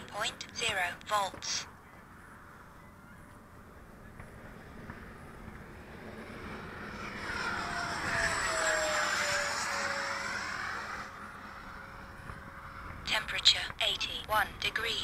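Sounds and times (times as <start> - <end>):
model jet fan whine fly-by: 0.0 - 13.1.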